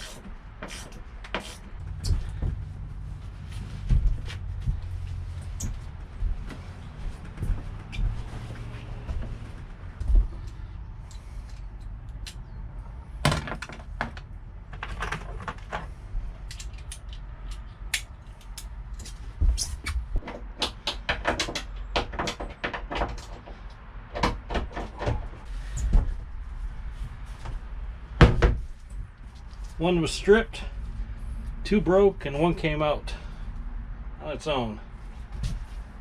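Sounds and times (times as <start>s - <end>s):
steady low rumble: 0.0s - 20.2s, 25.2s - 36.0s.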